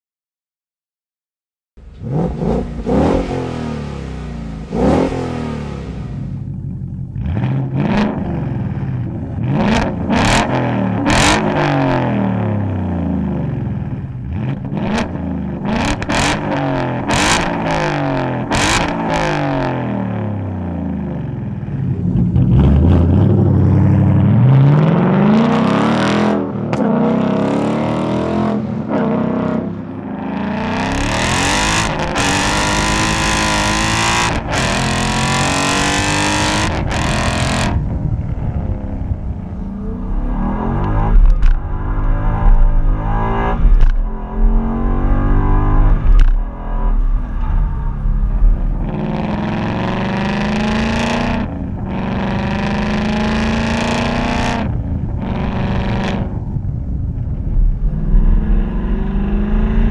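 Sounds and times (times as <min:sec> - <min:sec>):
car exhaust revving: 0:01.8 - 0:59.9.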